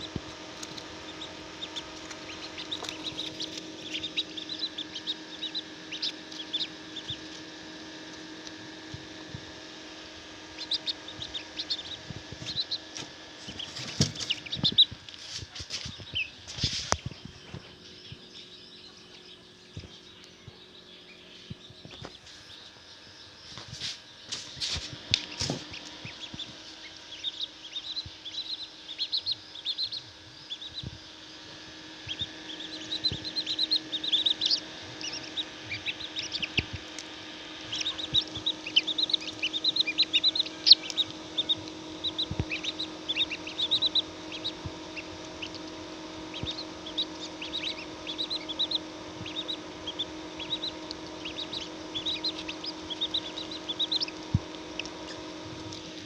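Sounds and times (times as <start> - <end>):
chicks peeping: 0.0 - 56.0
incubator humming: 0.0 - 56.0.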